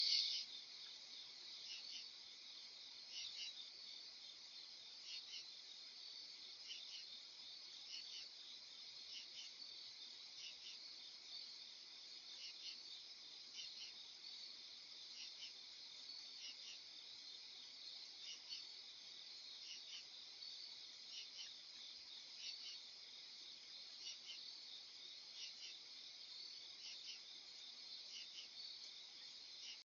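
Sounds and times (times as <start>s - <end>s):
faint crickets trilling: 0.0s - 29.8s.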